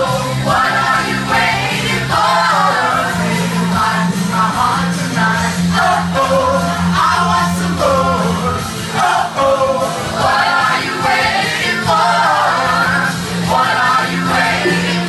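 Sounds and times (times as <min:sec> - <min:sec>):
pop-rock song with vocals: 0:00.0 - 0:15.0.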